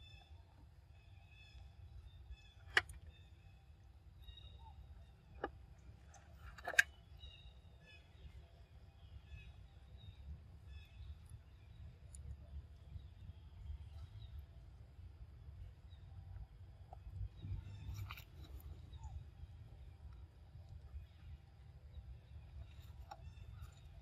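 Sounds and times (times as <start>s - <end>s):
faint chirping: 0.0s - 24.0s.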